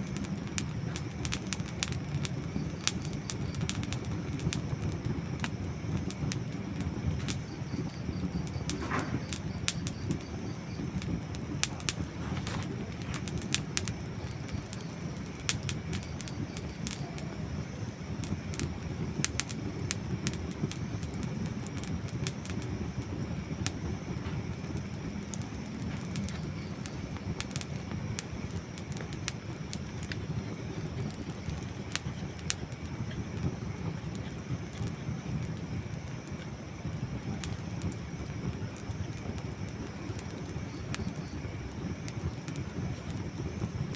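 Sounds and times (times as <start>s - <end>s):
campfire crackling and popping: 0.0s - 43.9s
low rumble of fire: 0.0s - 43.9s.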